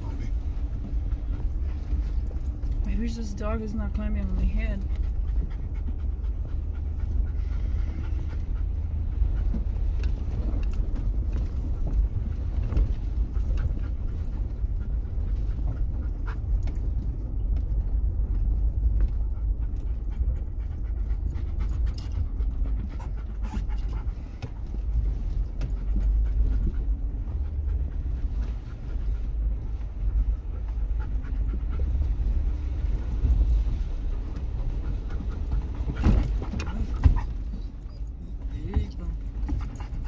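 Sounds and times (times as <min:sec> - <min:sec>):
dog panting: 0:00.0 - 0:17.3, 0:18.1 - 0:40.0
vehicle rumbling on a bumpy track: 0:00.0 - 0:40.0.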